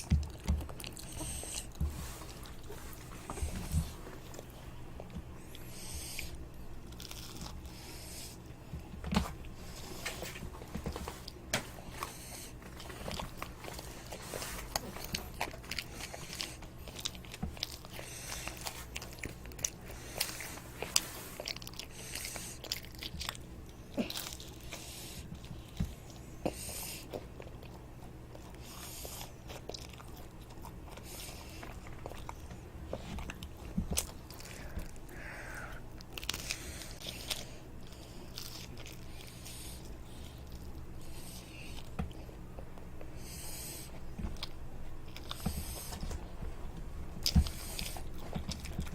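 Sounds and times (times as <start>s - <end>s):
child chewing toast: 0.0s - 48.9s
faint steady hum: 0.0s - 48.9s.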